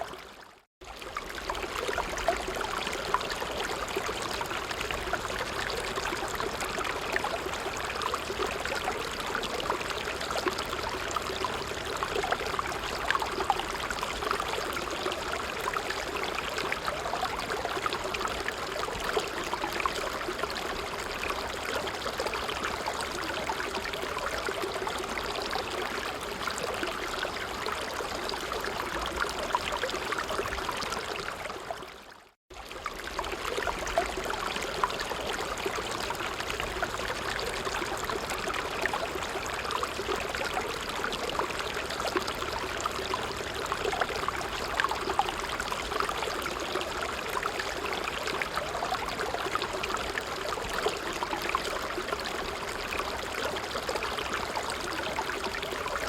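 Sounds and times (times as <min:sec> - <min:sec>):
stream babbling: 0:00.0 - 0:31.9, 0:32.6 - 0:56.0.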